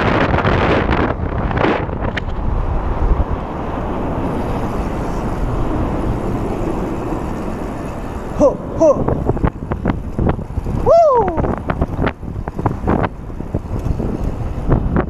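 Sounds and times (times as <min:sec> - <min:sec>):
tyres rumbling on pavement: 0:00.0 - 0:15.0
wind rushing over microphone: 0:00.0 - 0:15.0.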